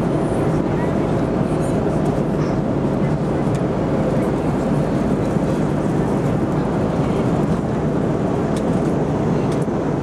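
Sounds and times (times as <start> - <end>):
airliner cabin engine noise: 0.0 - 10.0.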